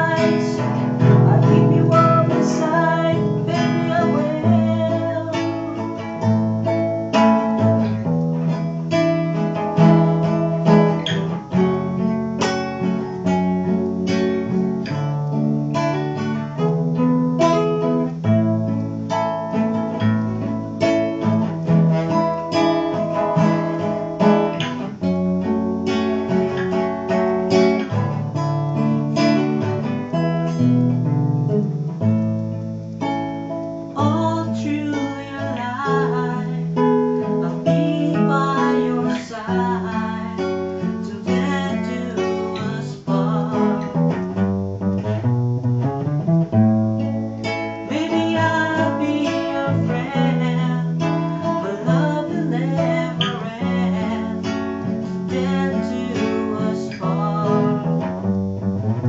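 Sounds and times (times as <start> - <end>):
classical guitar strumming: 0.0 - 59.0.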